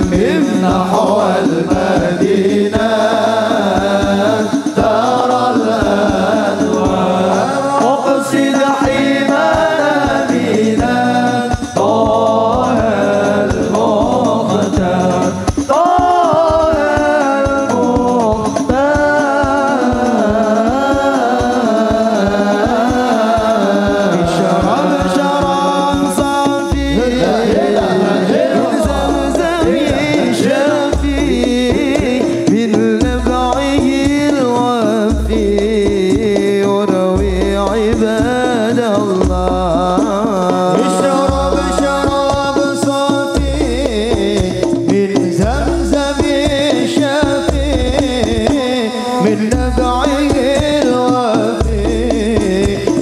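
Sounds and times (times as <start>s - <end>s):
music with low beat: 0.0s - 48.8s
man singing into microphone: 0.0s - 53.0s.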